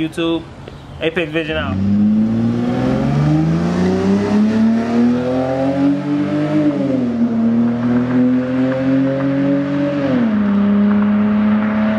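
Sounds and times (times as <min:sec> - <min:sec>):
car engine accelerating: 0:01.7 - 0:11.9.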